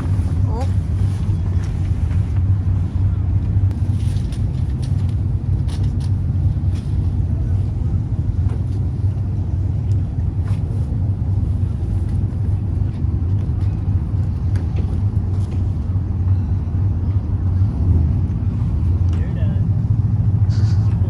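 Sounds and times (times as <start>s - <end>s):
truck engine drone: 0.0s - 21.0s.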